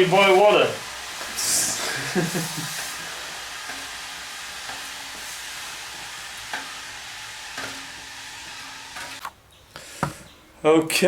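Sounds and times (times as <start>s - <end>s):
hot metal sizzling in water: 0.0s - 9.3s.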